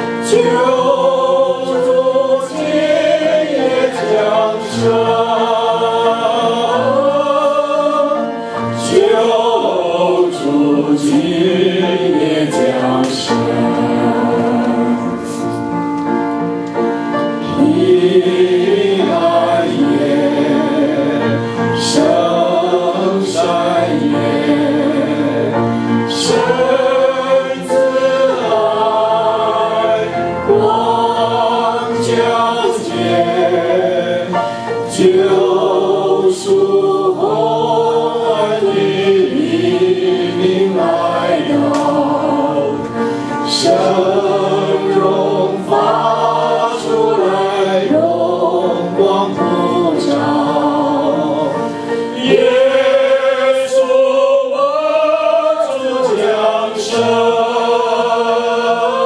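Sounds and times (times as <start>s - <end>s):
group singing a hymn: 0.0s - 59.0s.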